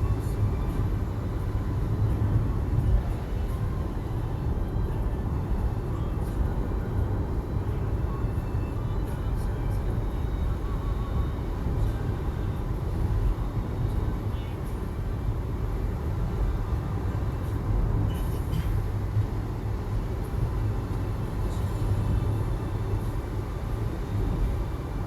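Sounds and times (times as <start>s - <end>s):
vehicle road and engine rumble: 0.0s - 25.0s.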